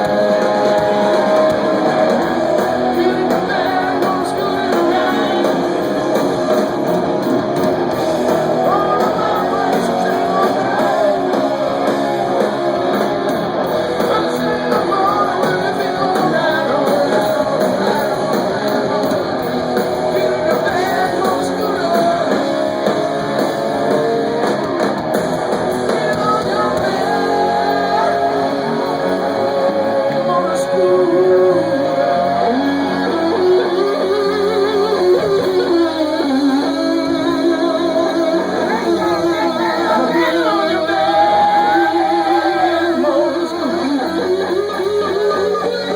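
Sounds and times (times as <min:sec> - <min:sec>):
electric guitar: 0:00.0 - 0:45.9
live rock band playing: 0:00.0 - 0:45.9.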